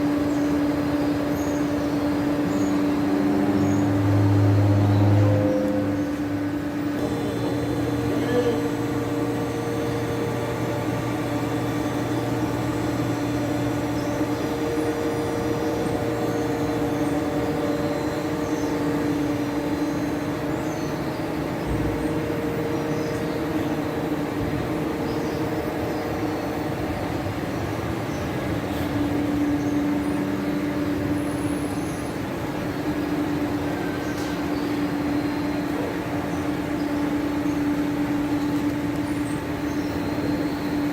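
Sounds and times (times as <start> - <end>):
grinder machine hum: 0.0 - 40.9.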